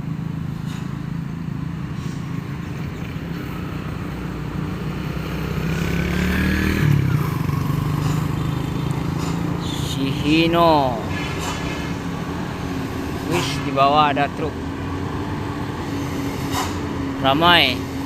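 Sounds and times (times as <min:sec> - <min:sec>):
diesel truck engine running: 0:00.0 - 0:18.0
engine whine: 0:00.0 - 0:18.0.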